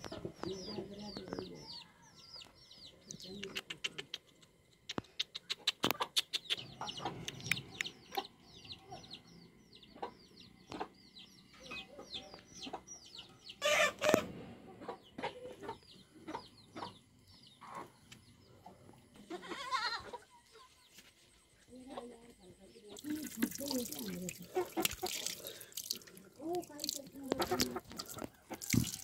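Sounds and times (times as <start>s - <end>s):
chickens clucking and peeping: 0.0s - 28.7s.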